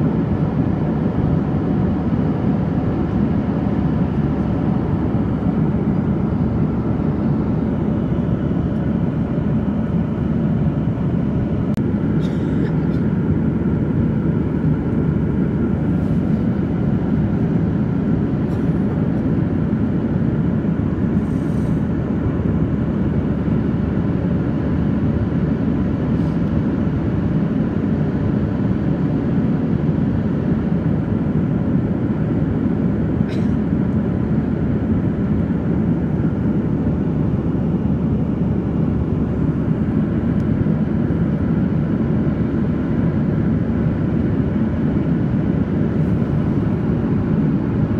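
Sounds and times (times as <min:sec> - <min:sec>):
airplane cabin drone: 0:00.0 - 0:47.9.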